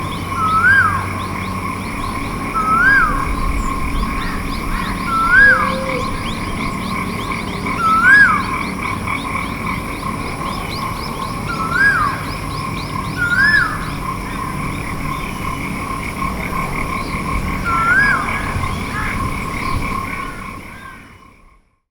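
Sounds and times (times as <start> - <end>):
bird calling: 0.0 - 21.2
chorus of calling animals: 0.0 - 21.3.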